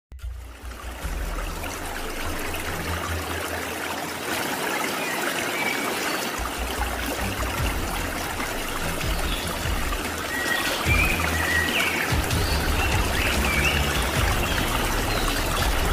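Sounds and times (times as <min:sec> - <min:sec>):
river rushing over rocks: 0:00.7 - 0:15.9.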